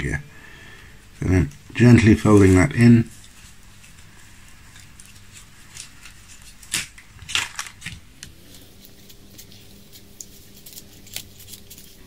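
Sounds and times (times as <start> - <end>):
paper crackles: 1.8 - 12.0
tissue paper crinkling: 1.8 - 12.0.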